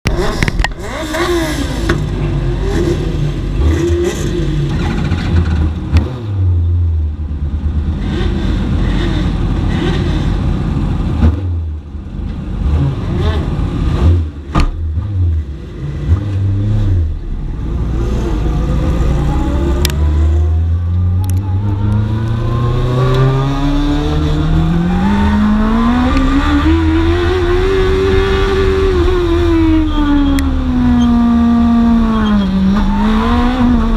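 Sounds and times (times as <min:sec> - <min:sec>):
motorcycle engine revving: 0:00.1 - 0:06.5, 0:12.6 - 0:33.9.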